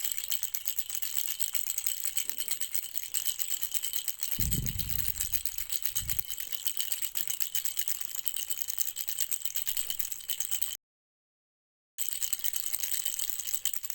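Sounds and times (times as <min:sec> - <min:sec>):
baby rattle shaken: 0:00.4 - 0:06.3, 0:07.2 - 0:10.8, 0:12.0 - 0:13.9.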